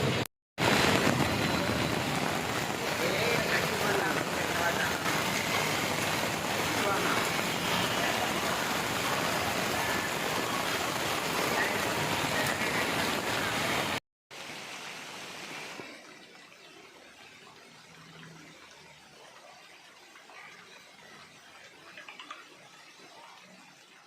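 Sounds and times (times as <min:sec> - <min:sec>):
heavy rain pouring: 0:00.0 - 0:24.0
quiet rain hiss: 0:00.7 - 0:24.0.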